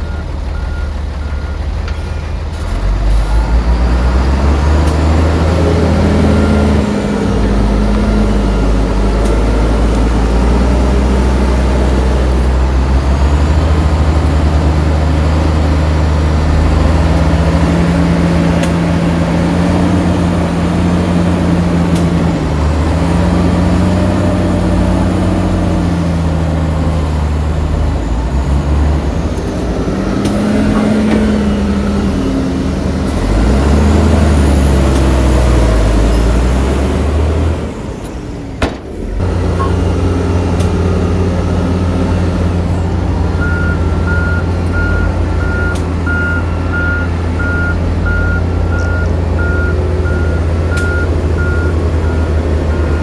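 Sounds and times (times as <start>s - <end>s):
heavy diesel engines revving: 0.0s - 53.0s.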